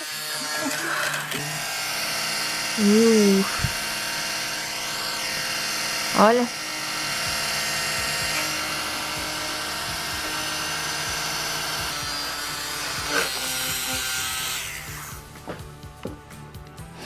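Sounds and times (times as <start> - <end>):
electric fabric shaver humming: 0.0 - 17.0.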